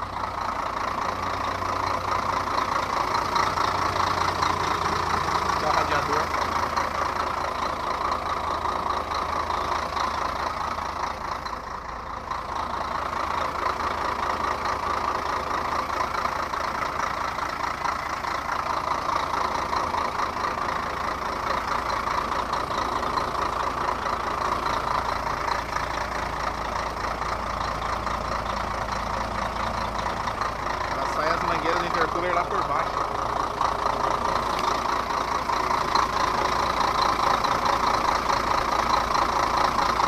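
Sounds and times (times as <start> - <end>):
truck diesel engine idling: 0.0 - 40.0.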